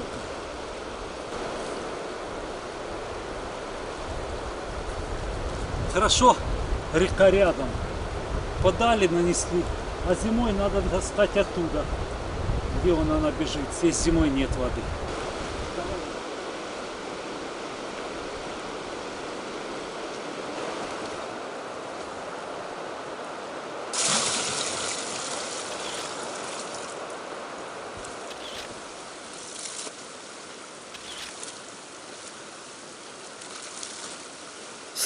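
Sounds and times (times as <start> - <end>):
shallow river rushing: 0.0 - 12.4, 14.8 - 35.0.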